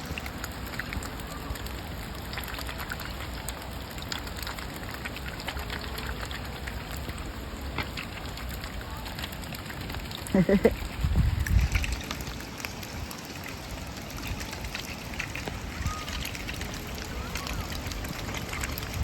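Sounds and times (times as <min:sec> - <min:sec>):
raindrops ticking: 0:00.0 - 0:19.0
steady rain falling: 0:00.0 - 0:19.0.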